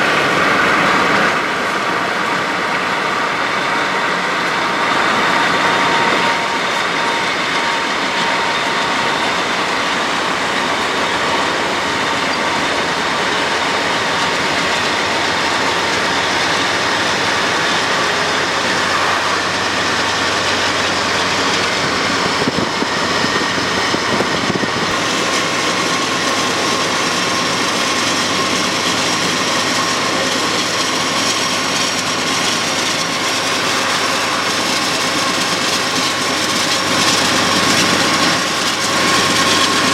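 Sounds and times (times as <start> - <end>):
freight train rolling by: 0.0 - 39.9.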